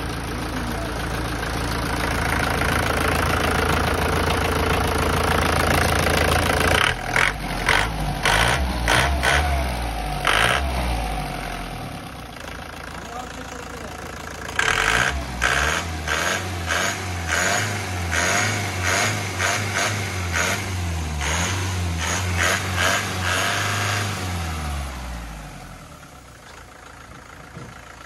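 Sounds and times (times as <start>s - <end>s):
diesel engine revving: 0.0s - 26.2s.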